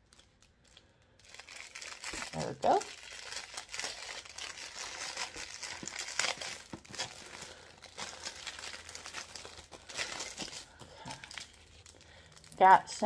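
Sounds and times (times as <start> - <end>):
plastic baggies crinkling: 0.0 - 13.0.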